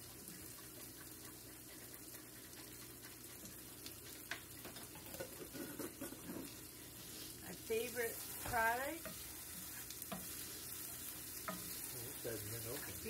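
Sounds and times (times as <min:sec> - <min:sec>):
onions sizzling in a skillet: 0:00.0 - 0:13.0.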